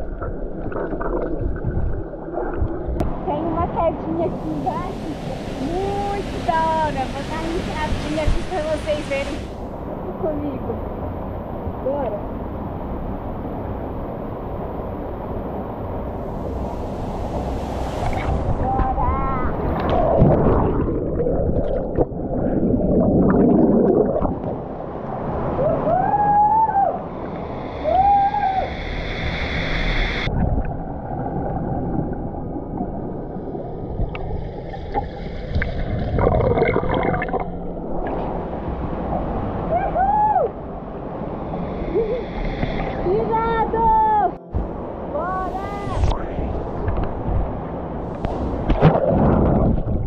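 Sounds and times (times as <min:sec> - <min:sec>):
muffled underwater water rush: 0:00.0 - 0:50.0.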